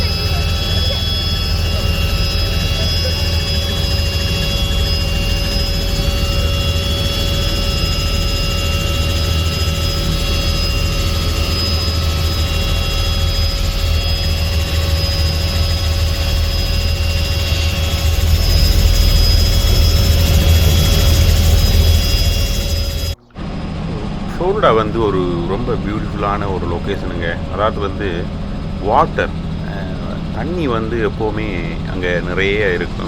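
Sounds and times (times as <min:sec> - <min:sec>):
helicopter rotor drone: 0:00.0 - 0:33.0
turbine whine: 0:00.0 - 0:33.0.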